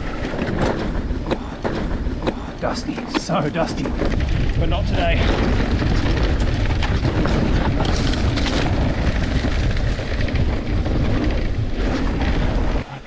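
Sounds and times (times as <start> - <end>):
bike rattling: 0.0 - 13.0
tyres on sand: 0.0 - 13.0
wind buffeting microphone: 0.0 - 13.0.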